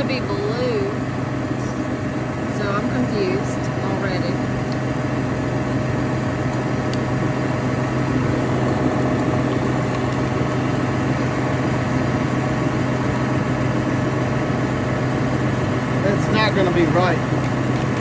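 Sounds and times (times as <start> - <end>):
farm machine engine idling: 0.0 - 18.0.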